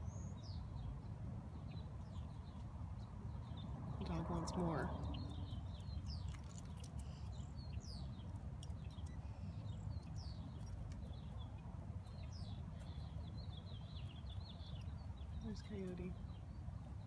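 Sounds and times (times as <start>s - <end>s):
small birds chirping: 0.0s - 17.0s
steady low rumble: 0.6s - 17.0s.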